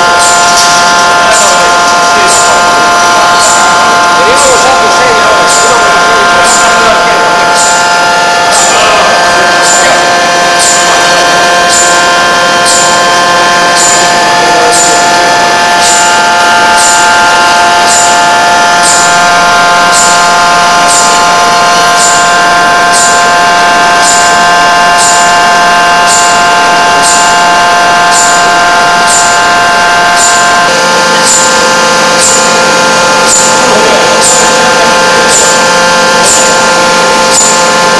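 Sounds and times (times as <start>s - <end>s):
forging machine whine: 0.0s - 37.9s.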